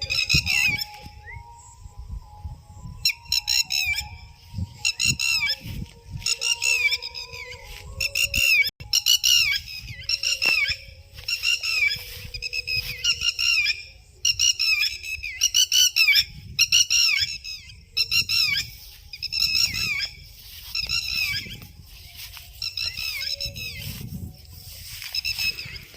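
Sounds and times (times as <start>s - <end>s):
birds squawking chirps: 0.0s - 1.8s, 3.0s - 25.9s.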